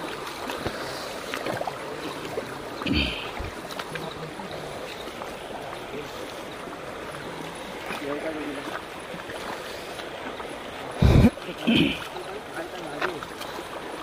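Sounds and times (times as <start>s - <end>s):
shallow river water rushing: 0.0s - 14.0s.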